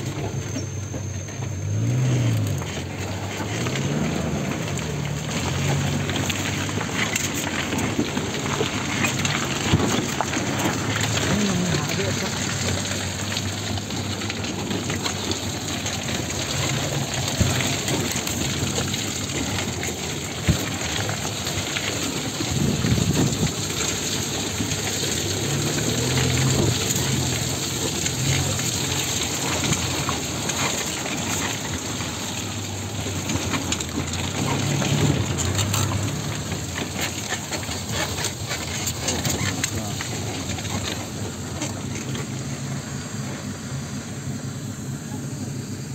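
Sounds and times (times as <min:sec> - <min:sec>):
low engine drone: 0:00.0 - 0:45.9.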